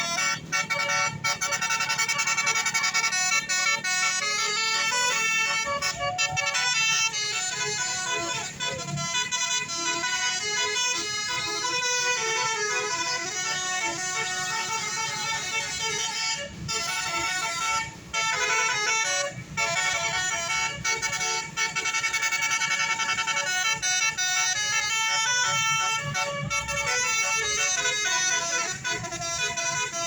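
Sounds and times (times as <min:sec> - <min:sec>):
bus air horn playing tune: 0:00.0 - 0:30.0.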